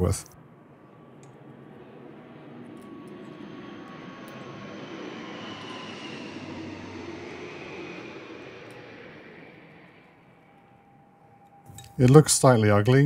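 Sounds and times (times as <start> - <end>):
aircraft engine passing over: 0.0 - 13.0.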